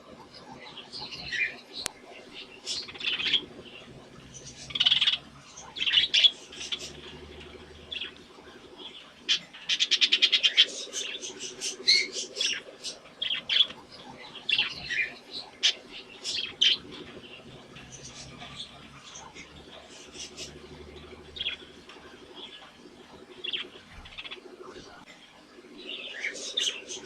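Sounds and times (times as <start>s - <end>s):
budgies chirping: 0.0s - 27.0s.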